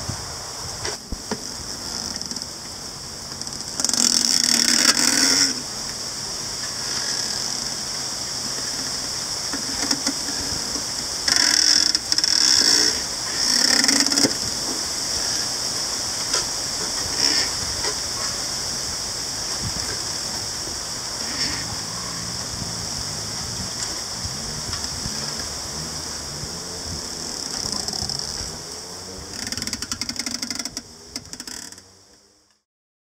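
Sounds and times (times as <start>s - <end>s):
wind hissing in leaves: 0.0s - 32.5s
bamboo stems creaking: 0.7s - 32.6s.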